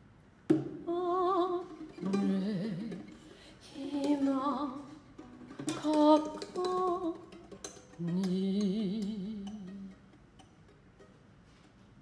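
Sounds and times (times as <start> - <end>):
plucked lute notes: 0.5 - 12.0.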